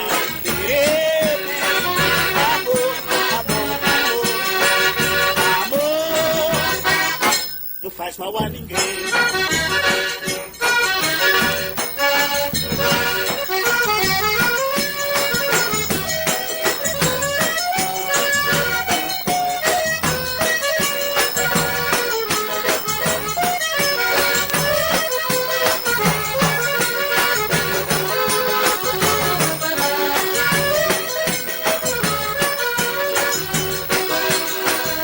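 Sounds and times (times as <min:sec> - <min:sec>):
accordion melody: 0:00.0 - 0:35.0
percussion beat: 0:00.0 - 0:35.0.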